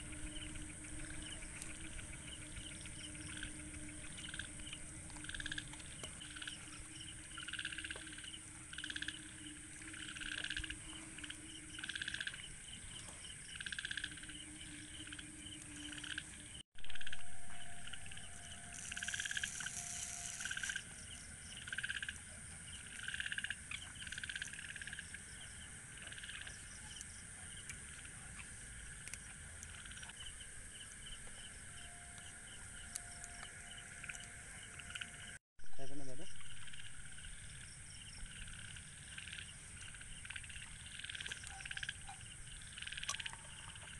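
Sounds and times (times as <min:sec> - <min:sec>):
crickets trilling: 0:00.0 - 0:43.9
frogs calling: 0:00.0 - 0:43.9.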